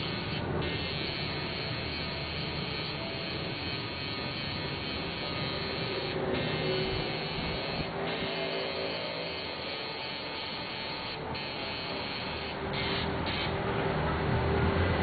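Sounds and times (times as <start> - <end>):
tattoo machine buzzing: 0.0 - 13.5.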